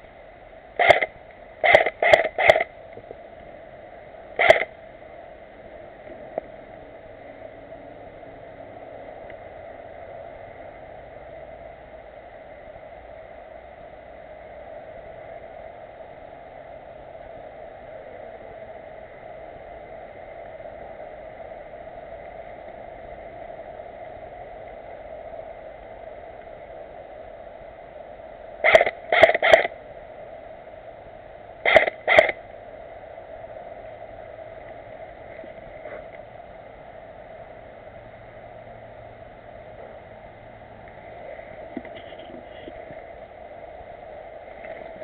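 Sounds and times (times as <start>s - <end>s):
wind hiss: 0.0s - 45.0s.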